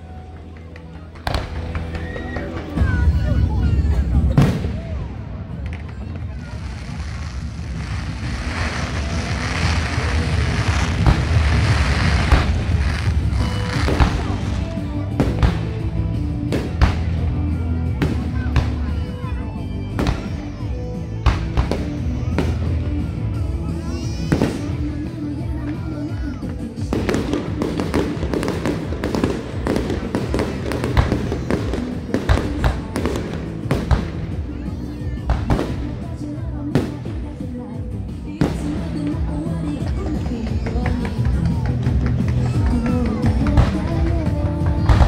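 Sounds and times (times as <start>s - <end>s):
fireworks rumble: 0.0s - 45.0s.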